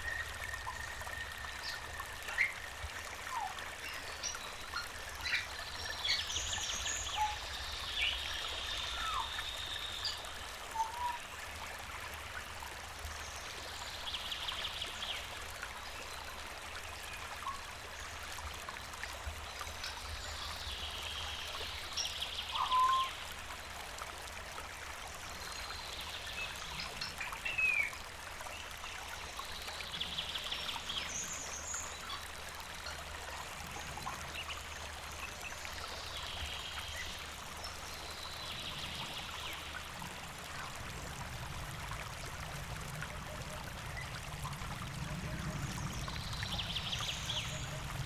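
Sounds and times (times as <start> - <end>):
river water flowing: 0.0 - 48.0.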